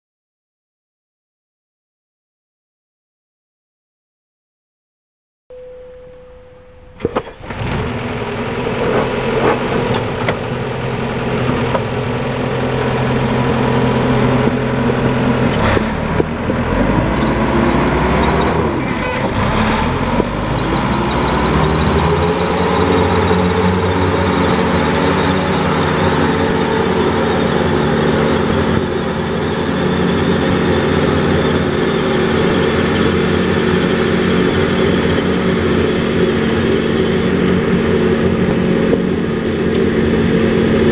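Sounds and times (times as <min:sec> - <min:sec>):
mower diesel engine running: 0:06.2 - 0:40.9.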